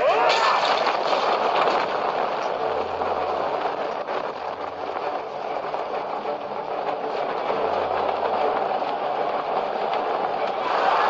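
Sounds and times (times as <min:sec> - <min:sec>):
dense rumbling noise: 0:00.0 - 0:11.0
low hum: 0:00.0 - 0:11.0.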